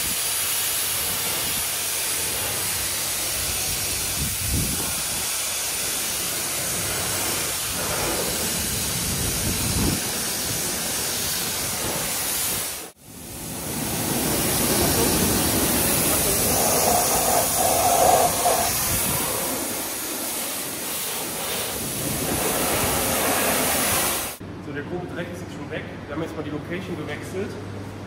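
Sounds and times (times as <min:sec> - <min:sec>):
pressure washer spraying water: 0:00.0 - 0:24.4.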